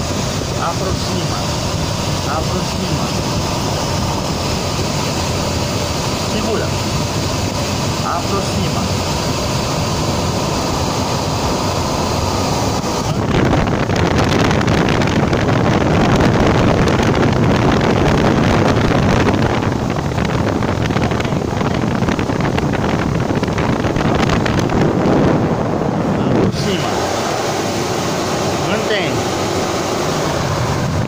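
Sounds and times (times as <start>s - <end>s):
air rushing over microphone: 0.0s - 31.0s
grooming blower running: 0.0s - 31.0s.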